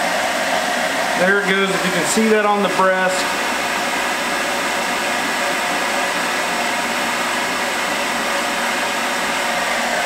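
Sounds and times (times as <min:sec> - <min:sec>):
hair dryer blowing with motor whine: 0:00.0 - 0:10.0.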